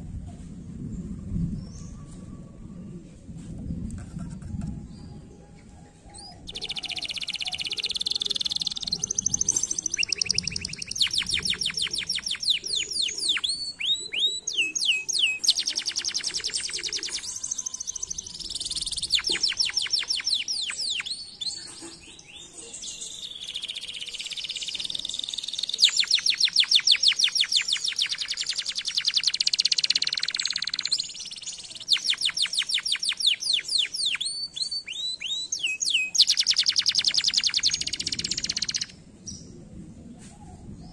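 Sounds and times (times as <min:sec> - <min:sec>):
canary singing trills: 0:06.1 - 0:39.4.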